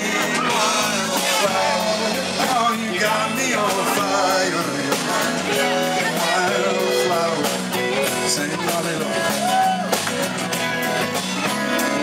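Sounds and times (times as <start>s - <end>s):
bass guitar: 0.0s - 12.0s
drum kit with cymbals: 0.0s - 12.0s
electric guitars: 0.0s - 12.0s.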